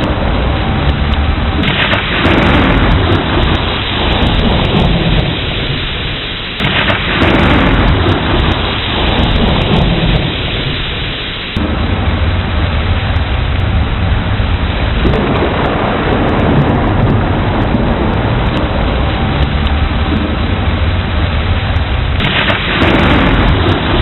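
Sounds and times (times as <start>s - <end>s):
steady rain: 0.0s - 24.0s
thunder rumbling: 0.0s - 24.0s.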